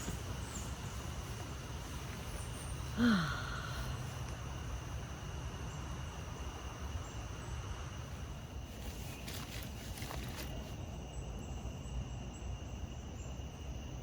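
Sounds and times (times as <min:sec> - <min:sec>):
faint insect-like tones: 0:00.0 - 0:14.0.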